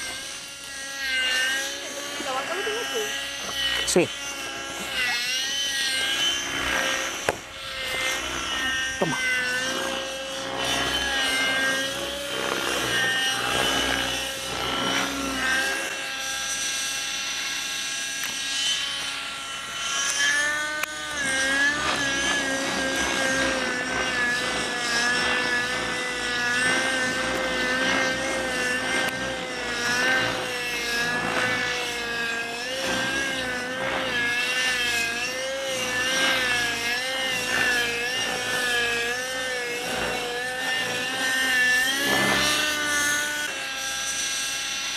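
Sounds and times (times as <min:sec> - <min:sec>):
model helicopter engine and rotor whine: 0:00.0 - 0:44.9.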